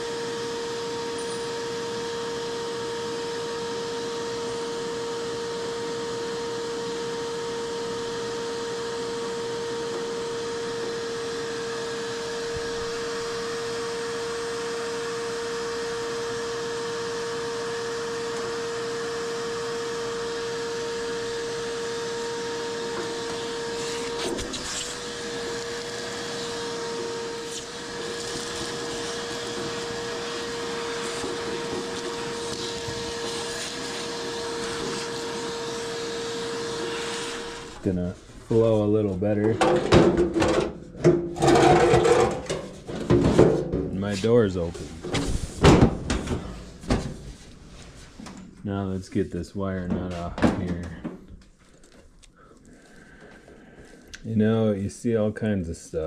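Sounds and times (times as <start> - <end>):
vacuum cleaner running: 0.0 - 51.2.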